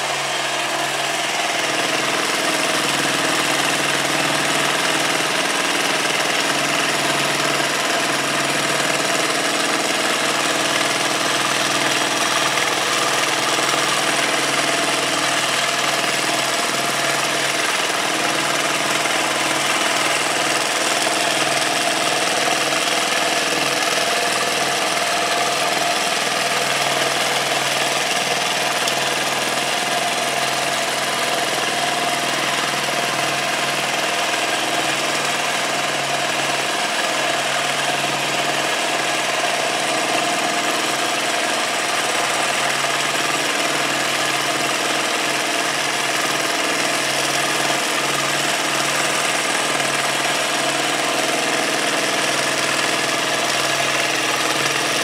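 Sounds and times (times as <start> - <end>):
quilting machine humming: 0.0 - 55.0.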